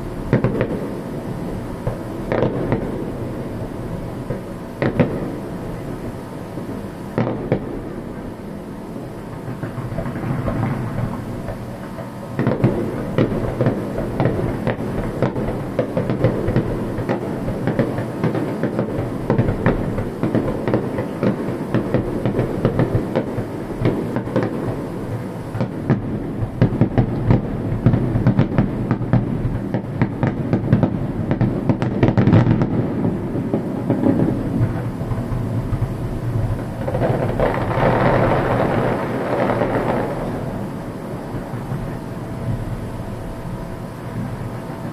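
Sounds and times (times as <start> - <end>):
fireworks booming and crackling: 0.0 - 44.9.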